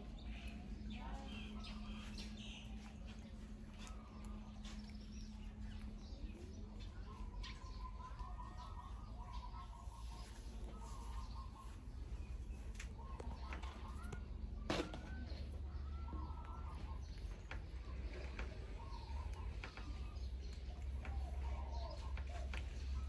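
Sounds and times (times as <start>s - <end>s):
bird chirps: 0.0s - 23.0s
low steady hum: 0.0s - 23.0s.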